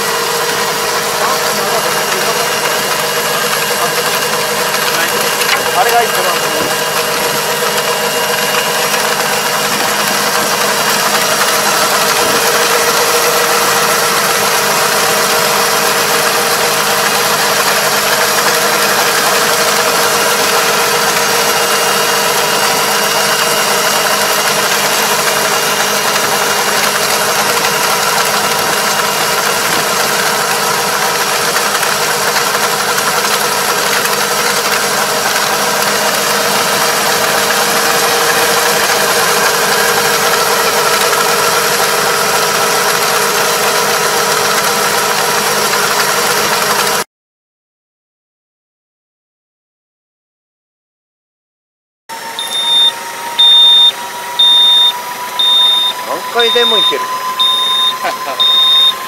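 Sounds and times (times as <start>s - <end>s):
tractor engine running: 0.0s - 47.0s, 52.3s - 59.0s.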